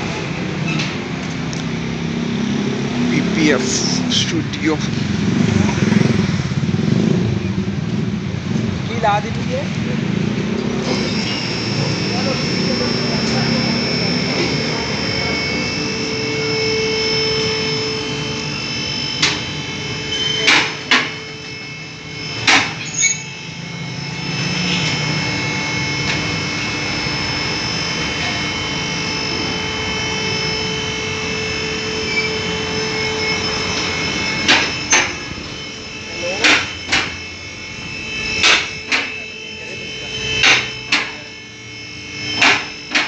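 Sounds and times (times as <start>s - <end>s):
workshop machinery humming: 0.0s - 43.0s.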